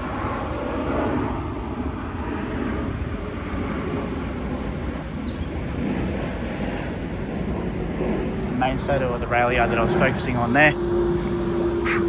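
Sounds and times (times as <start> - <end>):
low rumble of vehicles: 0.0 - 12.0
wind on microphone: 0.0 - 12.0.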